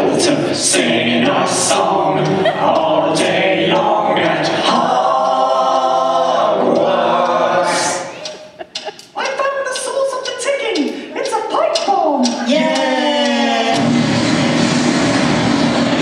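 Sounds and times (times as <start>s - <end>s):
voices singing a layered vocal round: 0.0s - 8.9s, 10.2s - 14.6s.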